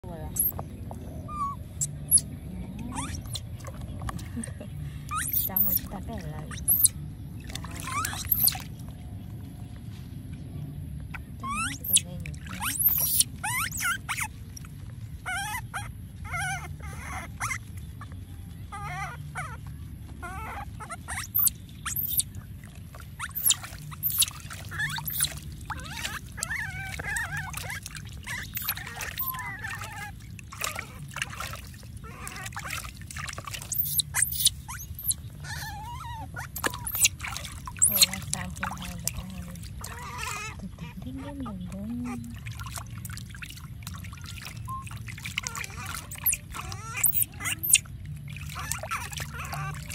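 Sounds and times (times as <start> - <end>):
water splashing in a plastic basin: 0.0 - 10.5, 11.1 - 15.9, 19.2 - 49.9
baby monkey squealing: 0.2 - 3.7, 5.1 - 7.0, 7.6 - 8.7, 11.1 - 42.4, 44.2 - 49.9.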